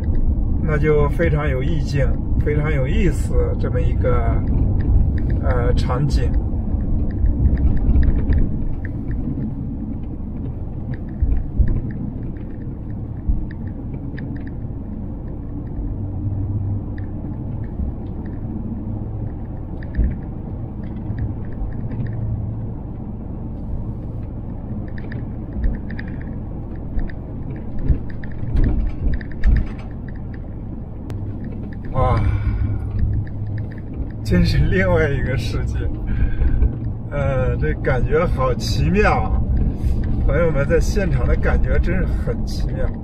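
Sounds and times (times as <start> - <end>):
light clicks and rattles: 0.0 - 43.0
road and engine rumble: 0.0 - 43.0.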